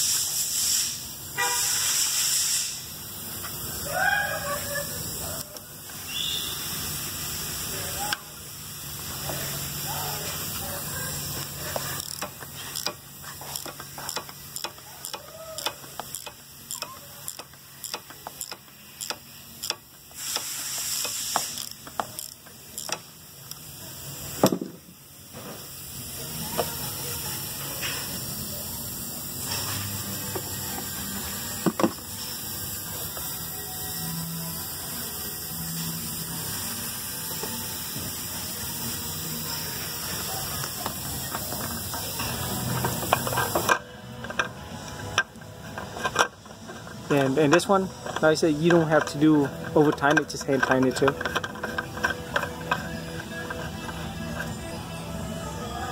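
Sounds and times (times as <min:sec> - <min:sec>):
ratchet clicking: 0:00.0 - 0:55.4.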